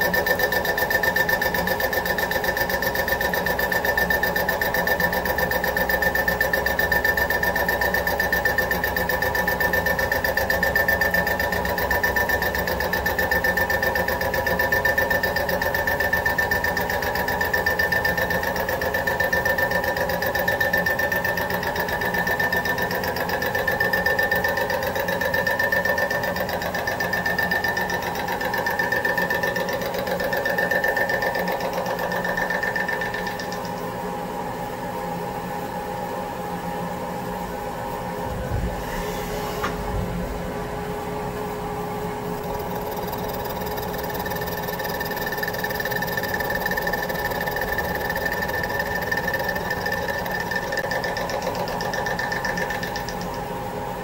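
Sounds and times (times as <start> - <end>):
fast even cutter ticking: 0.0 - 33.9, 42.4 - 53.5
milling cutter high whine: 0.0 - 36.1, 37.5 - 54.0.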